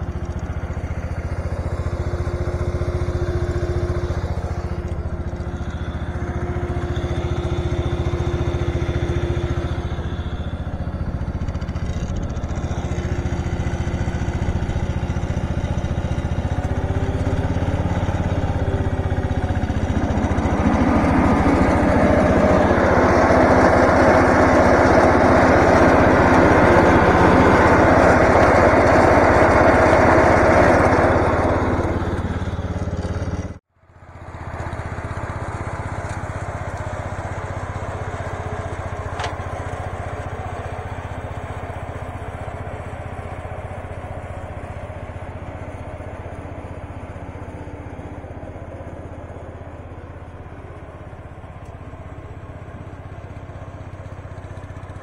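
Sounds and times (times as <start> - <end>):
tractor mower engine running: 0.0 - 55.0.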